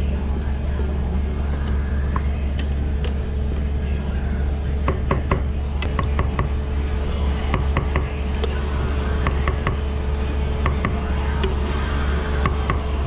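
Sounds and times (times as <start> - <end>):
kitchen equipment humming: 0.0 - 13.0.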